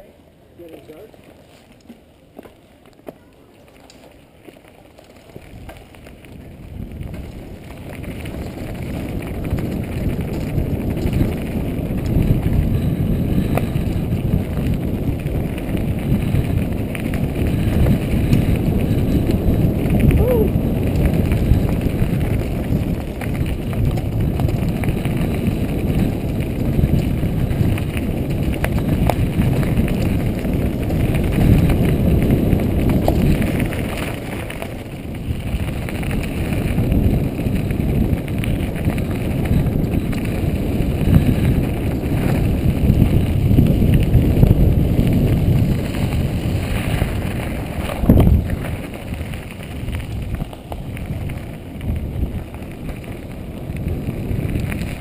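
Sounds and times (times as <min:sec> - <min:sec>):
bike tyres rolling on gravel: 0:00.0 - 0:55.0
wind on microphone: 0:05.4 - 0:55.0.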